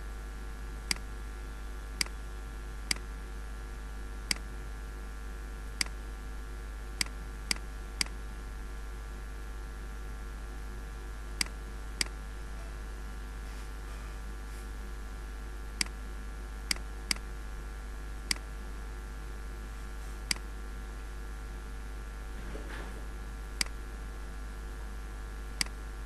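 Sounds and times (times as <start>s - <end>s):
background hum and hiss: 0.0s - 26.0s.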